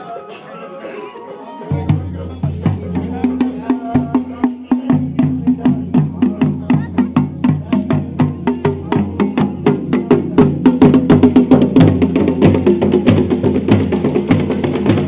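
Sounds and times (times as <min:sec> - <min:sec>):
hand drums beaten fast: 0:01.7 - 0:15.0.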